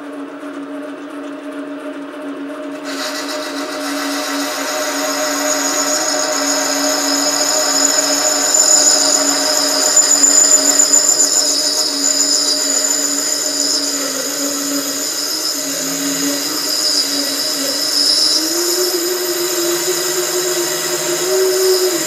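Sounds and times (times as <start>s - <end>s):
lathe motor whine: 2.6s - 22.0s
cutting tool squeal: 2.8s - 22.0s.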